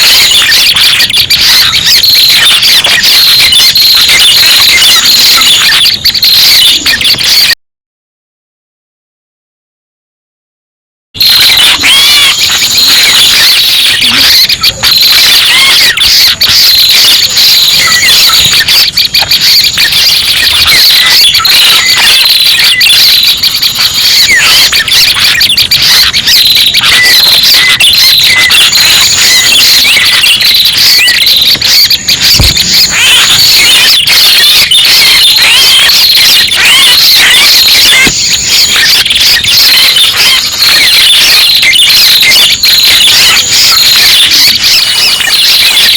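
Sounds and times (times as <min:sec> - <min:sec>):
shrill bird chirping and trilling: 0:00.0 - 0:07.5, 0:11.2 - 0:45.9
high bird whistle: 0:00.0 - 0:07.6, 0:11.2 - 0:45.9.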